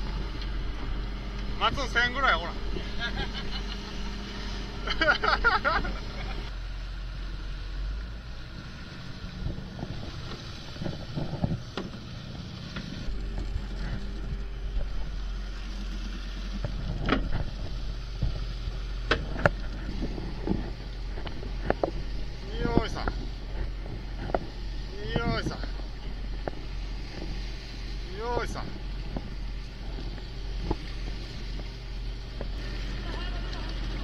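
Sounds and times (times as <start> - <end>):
boat engine running: 0.0 - 34.0
water noise: 0.0 - 34.0
wind: 0.0 - 34.0.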